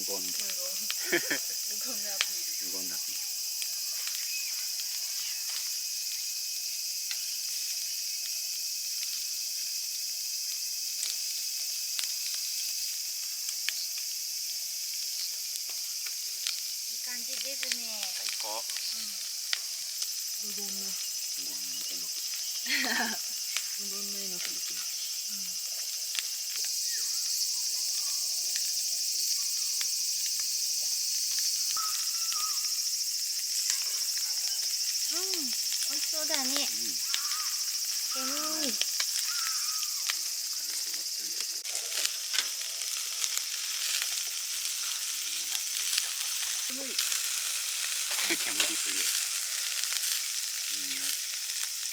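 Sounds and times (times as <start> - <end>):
cicadas and insects chorus: 0.0 - 51.9
food sizzling on grill: 0.0 - 51.9.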